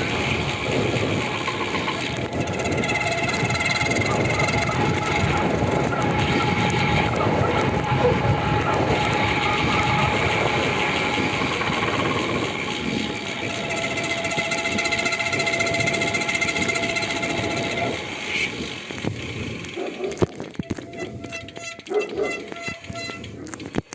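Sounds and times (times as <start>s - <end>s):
bike tyres rolling: 0.0s - 23.9s
bike wheels whining: 0.0s - 23.9s.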